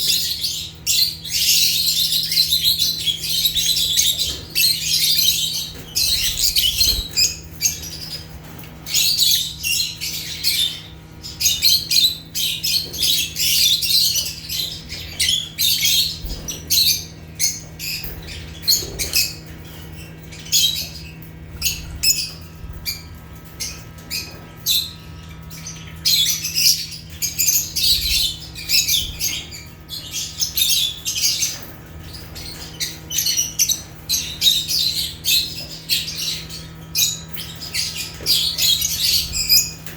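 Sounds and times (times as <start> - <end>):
lovebirds chirping and squawking: 0.0 - 39.9
steady low hum: 0.0 - 39.9.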